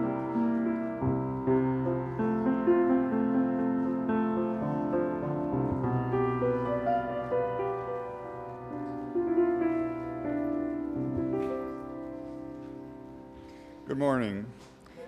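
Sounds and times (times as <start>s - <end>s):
slow grand piano piece: 0.0s - 15.0s.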